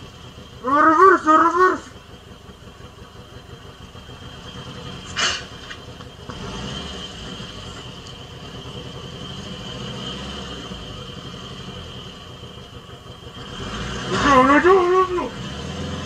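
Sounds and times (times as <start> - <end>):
low steady rumble: 0.0 - 15.6.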